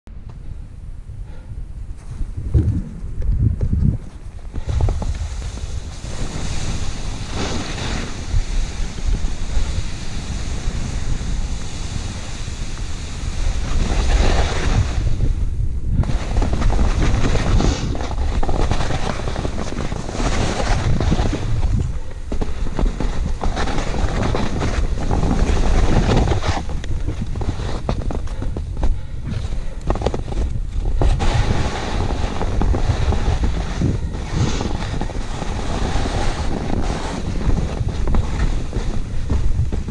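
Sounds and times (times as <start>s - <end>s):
wind rumble on microphone: 0.1s - 39.9s
skis scraping through snow: 4.6s - 15.4s, 16.0s - 39.9s.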